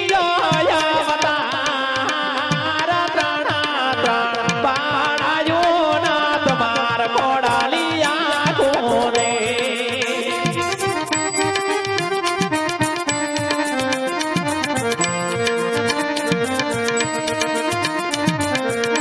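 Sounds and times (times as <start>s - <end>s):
person singing into a microphone: 0.0s - 19.0s
tabla beat: 0.0s - 19.0s.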